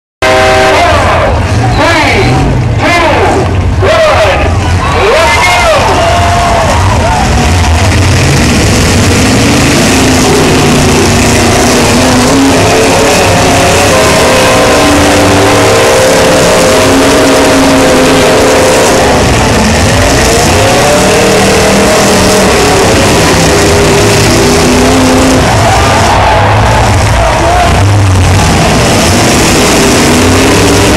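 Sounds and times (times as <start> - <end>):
car engines revving: 0.2 - 30.9.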